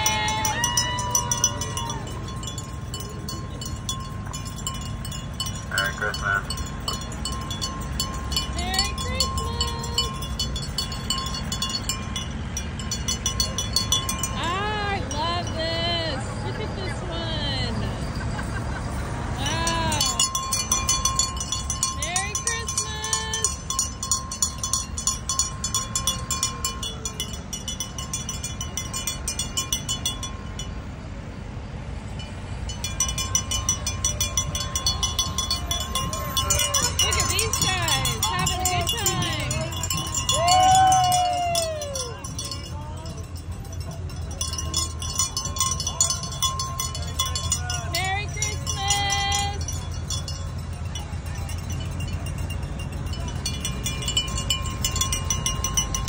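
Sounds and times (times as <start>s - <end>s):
rapid high jingling: 0.0s - 56.0s
tractor engines rumbling: 0.0s - 56.0s.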